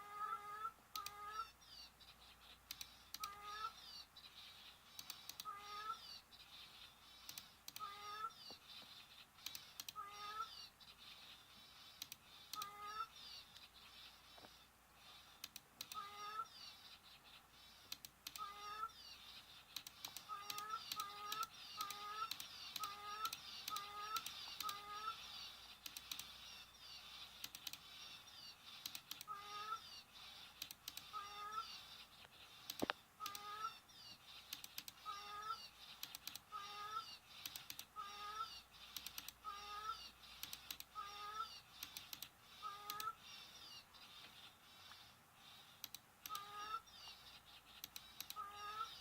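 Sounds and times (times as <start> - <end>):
faint high chirping chorus: 0.0 - 49.0.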